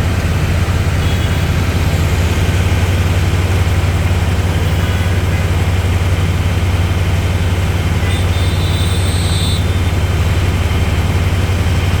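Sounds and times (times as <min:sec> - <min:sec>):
engine running with low drone: 0:00.0 - 0:12.0.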